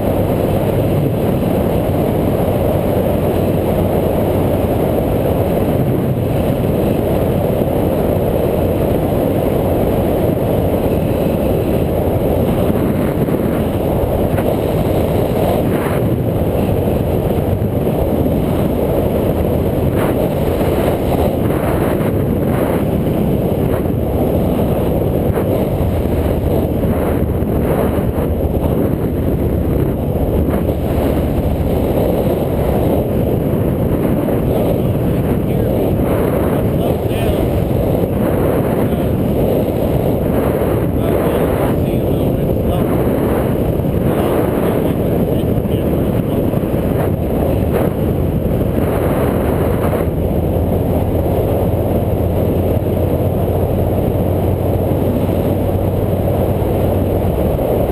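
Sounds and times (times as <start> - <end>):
road rumble: 0.0 - 57.9
wind buffeting microphone: 0.0 - 57.9.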